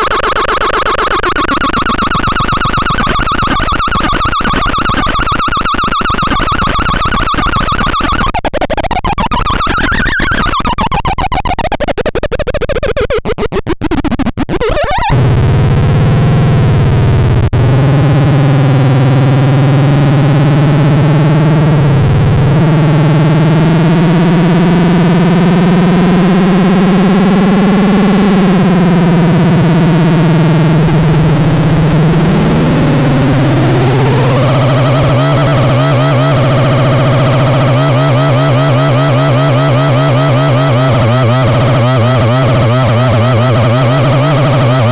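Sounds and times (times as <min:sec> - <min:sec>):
electronic sound generator tones: 0:00.0 - 0:44.9.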